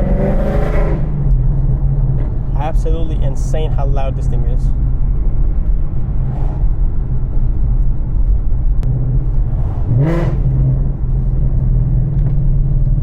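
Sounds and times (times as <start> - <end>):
car engine rumbling while driving: 0.0 - 13.0.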